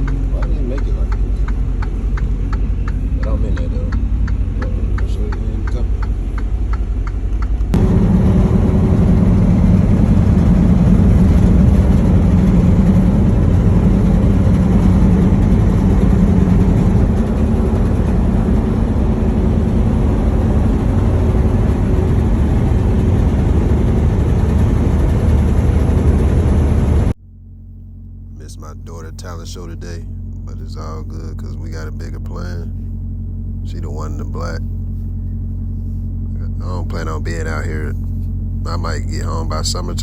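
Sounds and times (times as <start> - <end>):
truck diesel engine rumbling: 0.0 - 40.0.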